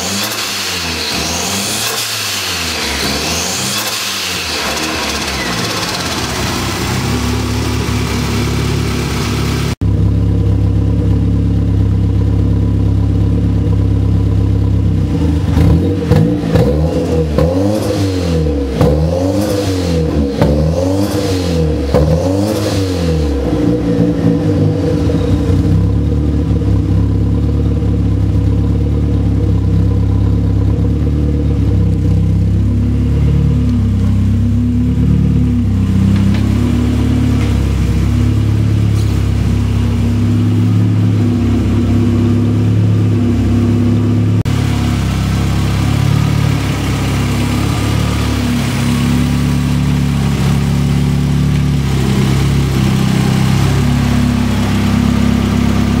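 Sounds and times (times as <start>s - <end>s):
engine idling with throttle blips: 4.4s - 16.7s, 23.1s - 56.0s.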